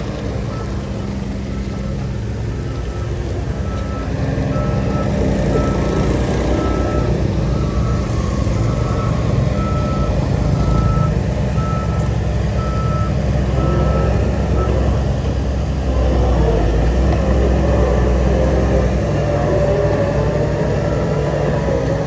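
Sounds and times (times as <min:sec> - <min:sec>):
reversing alarm beeping: 0:00.0 - 0:16.0, 0:19.2 - 0:22.0
low engine rumble: 0:00.0 - 0:22.0.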